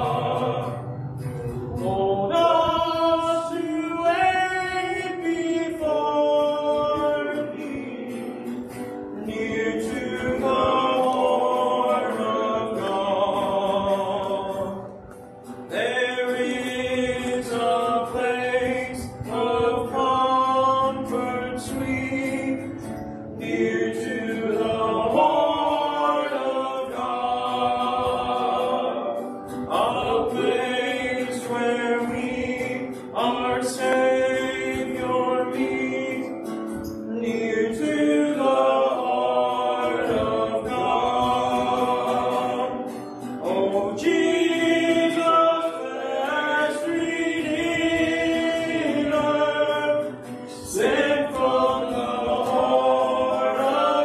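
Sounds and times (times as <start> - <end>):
voices singing a hymn: 0.0 - 54.0.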